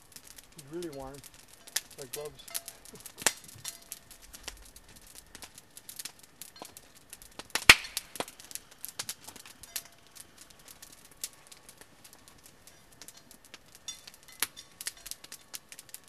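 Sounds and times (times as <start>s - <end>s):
sharp clicks and light knocks: 0.2s - 16.0s.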